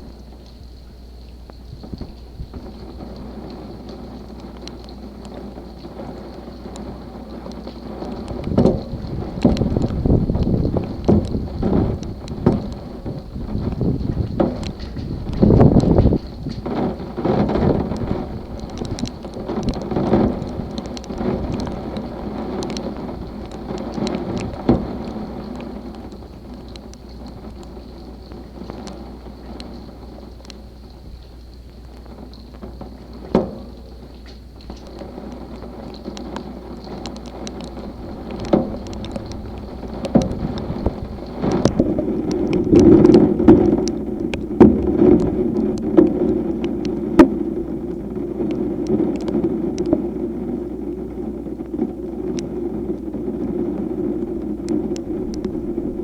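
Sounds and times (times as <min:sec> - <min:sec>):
rain drops ticking on hard surface: 0:00.0 - 0:56.0
rushing storm background: 0:00.0 - 0:56.0.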